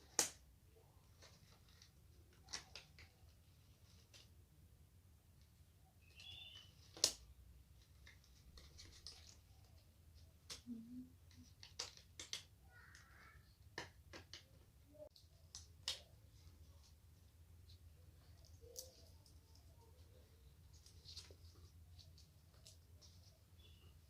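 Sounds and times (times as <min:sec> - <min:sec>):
small items clicking and tapping: 0:01.1 - 0:04.3, 0:06.0 - 0:17.0, 0:17.6 - 0:24.0.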